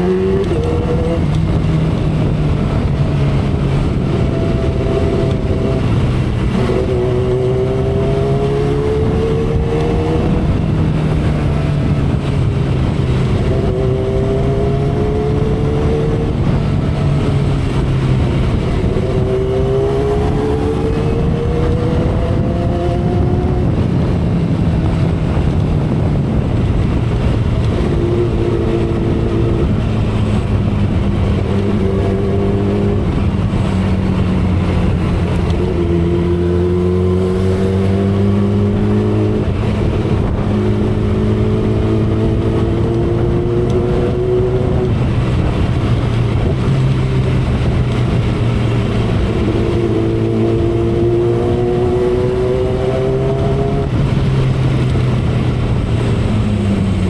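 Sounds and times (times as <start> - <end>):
motorcycle engine at speed: 0.0 - 57.0
wind rush: 0.0 - 57.0.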